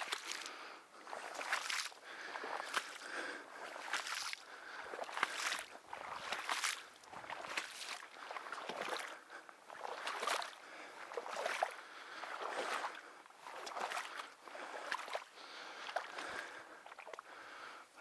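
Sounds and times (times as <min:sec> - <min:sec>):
footsteps sloshing through marsh water: 0:00.0 - 0:18.0.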